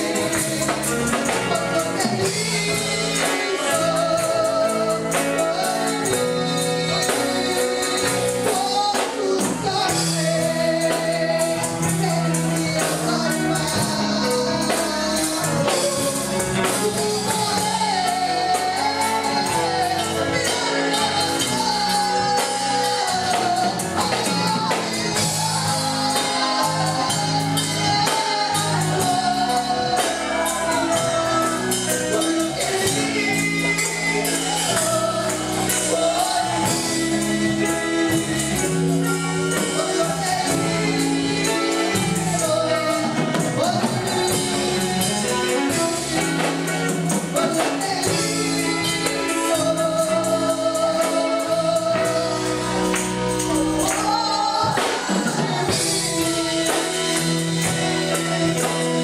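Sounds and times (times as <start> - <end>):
singing over a band: 0.0 - 59.0
tambourine beat: 0.0 - 59.0.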